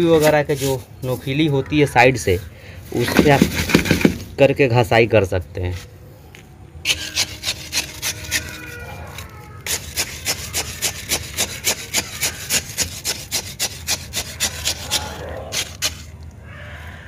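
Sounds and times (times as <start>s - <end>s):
stick scraping potting mix: 0.0s - 4.5s, 6.8s - 16.4s.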